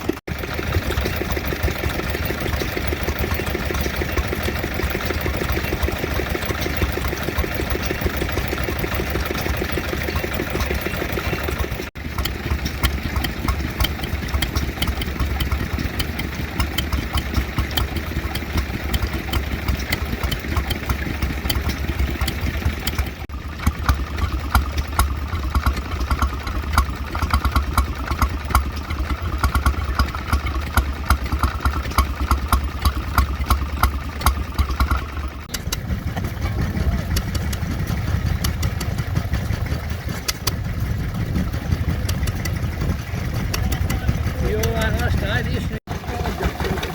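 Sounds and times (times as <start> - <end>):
stationary oil engines running: 0.0 - 46.9.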